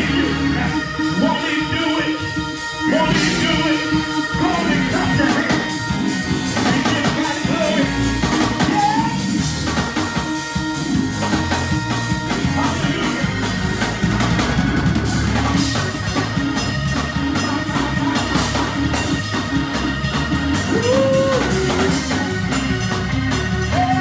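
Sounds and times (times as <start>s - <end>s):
band playing drums and bass: 0.0s - 24.0s.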